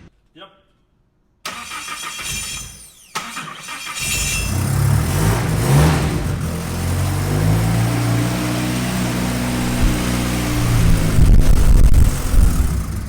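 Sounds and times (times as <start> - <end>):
car engine revving: 1.5 - 13.0.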